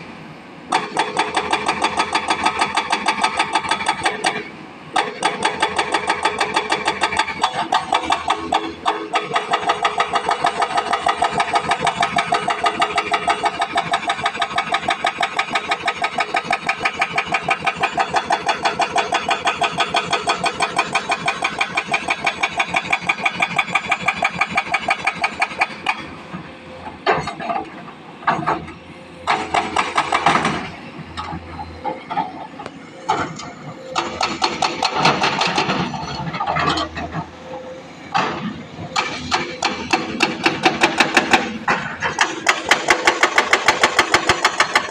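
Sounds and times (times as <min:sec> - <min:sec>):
excavator engine running: 0:00.0 - 0:44.9
hydraulic breaker hammering rock: 0:00.7 - 0:26.2, 0:26.8 - 0:37.2, 0:38.1 - 0:44.9.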